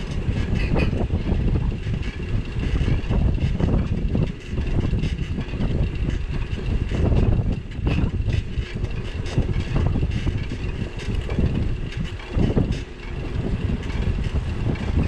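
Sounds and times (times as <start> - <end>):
bicycle riding rumble: 0.0 - 15.0
rattles and clicks: 0.0 - 15.0
wind buffeting microphone: 0.0 - 15.0.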